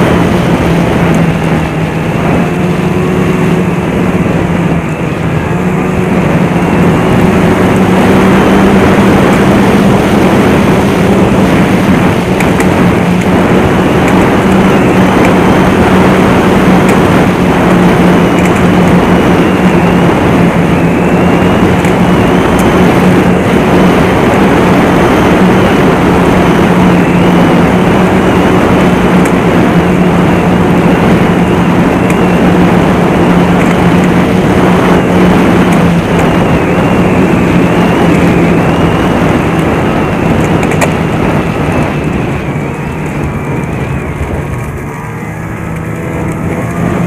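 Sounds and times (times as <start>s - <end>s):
snowmobile engine droning: 0.0s - 47.0s.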